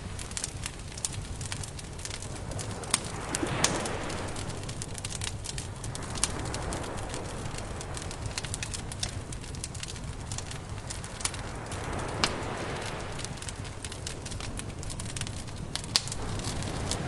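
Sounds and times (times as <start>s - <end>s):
surf: 0.0s - 17.0s
wood fire crackling and popping: 0.0s - 17.0s
low rumble: 1.0s - 15.4s.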